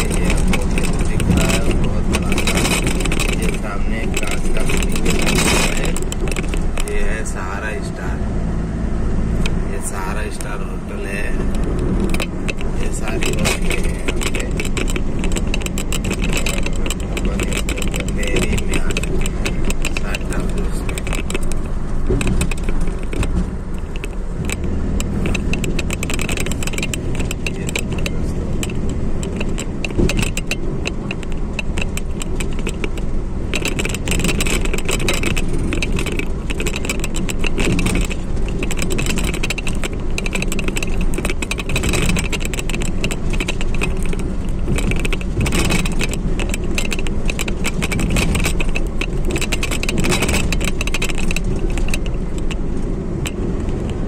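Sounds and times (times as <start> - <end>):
car engine and road rumble: 0.0 - 54.0
fine rattling: 0.0 - 54.0.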